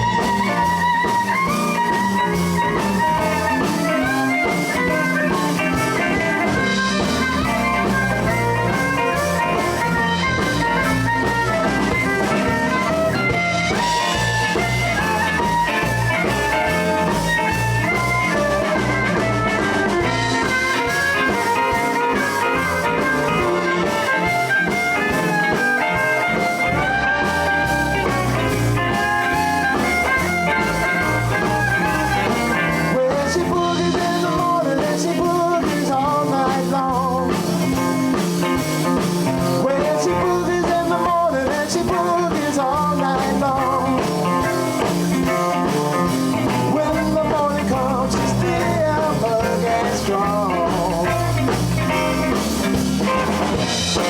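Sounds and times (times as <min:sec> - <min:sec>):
blues band playing: 0:00.0 - 0:54.0
melodic lead line: 0:00.0 - 0:54.0.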